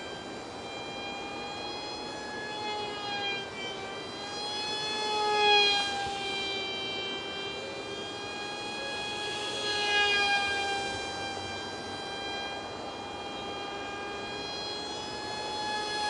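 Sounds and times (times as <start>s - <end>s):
small model plane motor whining: 0.0s - 16.0s.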